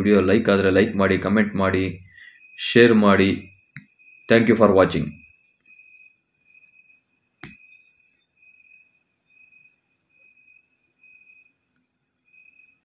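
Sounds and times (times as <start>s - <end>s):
insect-like chirping: 0.0s - 12.9s.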